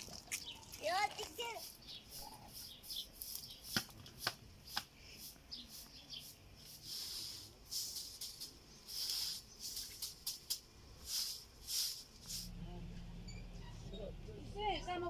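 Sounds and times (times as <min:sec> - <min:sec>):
rustling and scraping: 0:00.0 - 0:14.1.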